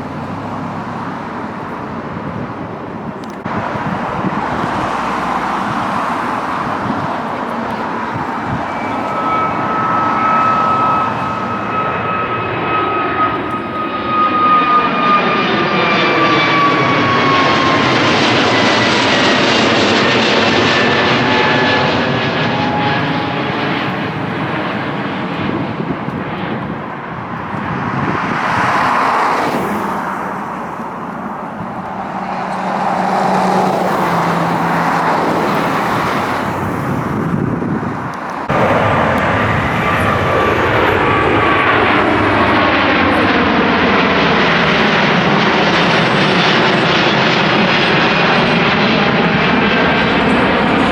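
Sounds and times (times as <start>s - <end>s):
jet airliner passing overhead: 0.0s - 50.9s.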